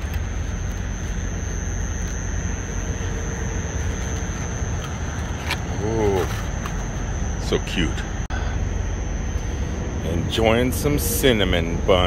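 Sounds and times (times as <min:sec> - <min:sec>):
high whine: 0:00.0 - 0:12.0
vehicle engines idling: 0:00.0 - 0:12.0.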